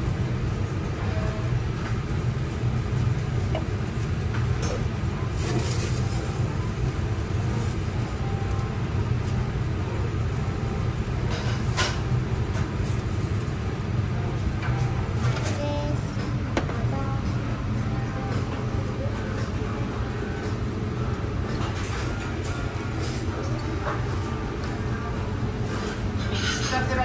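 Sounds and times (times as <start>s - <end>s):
ventilation fan humming: 0.0s - 27.0s.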